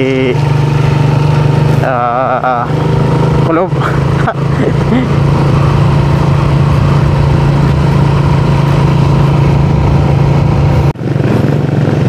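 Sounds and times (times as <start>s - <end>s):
motorcycle engine cruising: 0.0s - 12.0s
road and wind noise: 0.0s - 12.0s.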